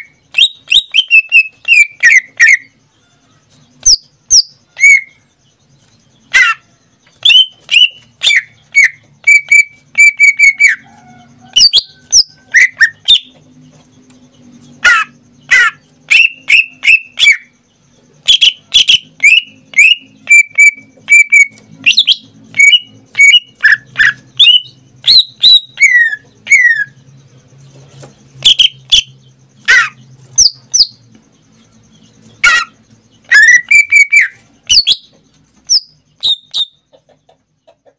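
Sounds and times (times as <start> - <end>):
bird singing whistled notes: 0.0 - 3.2, 3.8 - 13.4, 16.1 - 17.6, 18.2 - 27.2, 28.3 - 36.9.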